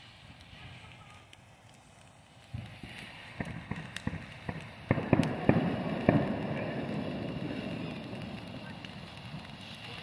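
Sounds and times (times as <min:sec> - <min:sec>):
crackling hiss: 0:00.0 - 0:10.0
fireworks cracking and popping: 0:00.0 - 0:10.0.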